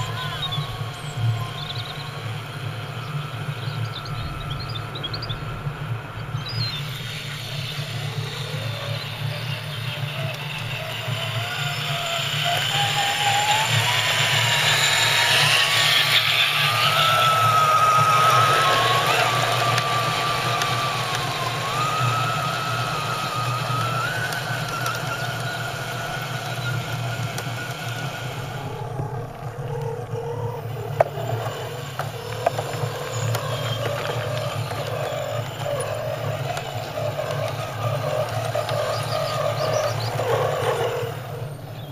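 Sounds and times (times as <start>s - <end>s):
rc truck motor whine: 0.0s - 41.9s.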